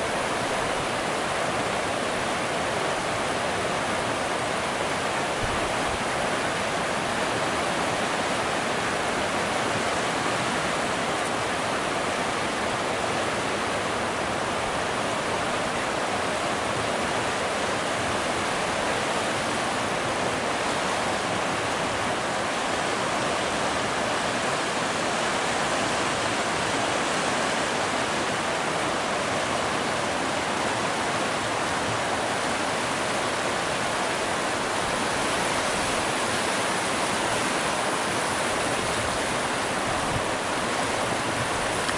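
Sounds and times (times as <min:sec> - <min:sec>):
river rapids rushing over rocks: 0:00.0 - 0:41.9.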